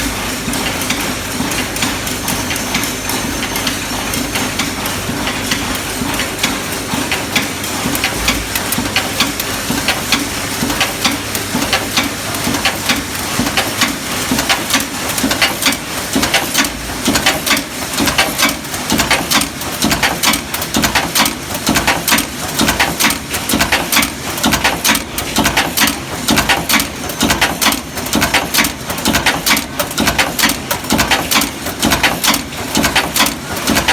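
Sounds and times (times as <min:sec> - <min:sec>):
machine stamping strikes: 0:00.0 - 0:33.9.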